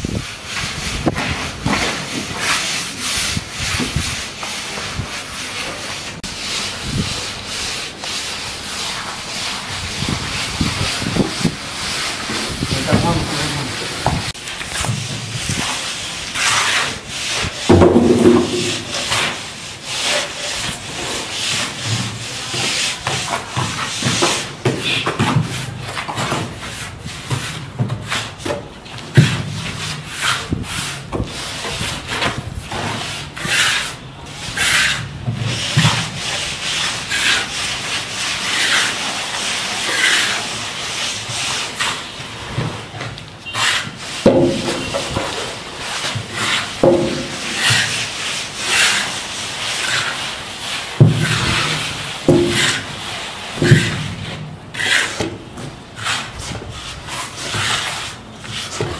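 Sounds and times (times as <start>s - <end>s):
trowel scraping wet cement: 0.0s - 58.9s.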